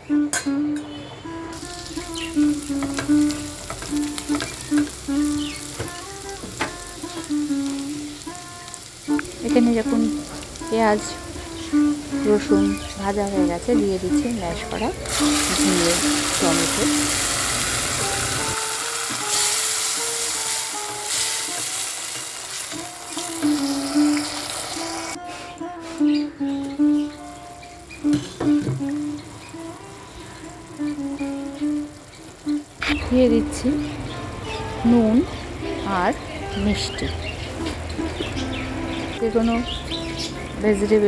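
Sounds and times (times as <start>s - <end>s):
light background music plucked notes: 0.0s - 41.0s
onions sizzling in oil: 1.5s - 38.5s.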